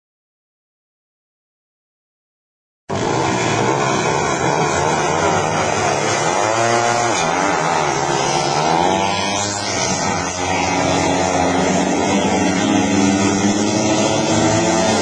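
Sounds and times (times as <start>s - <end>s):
motorcycles racing and revving: 2.9s - 15.0s.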